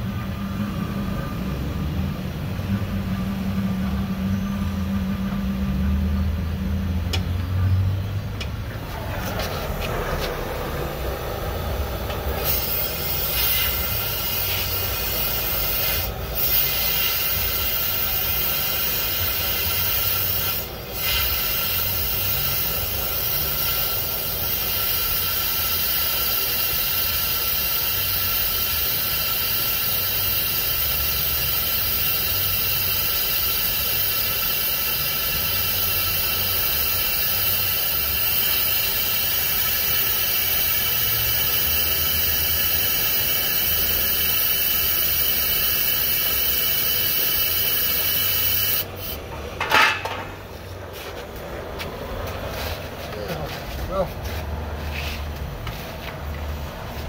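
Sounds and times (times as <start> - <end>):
gas torch roaring: 0.0 - 53.3.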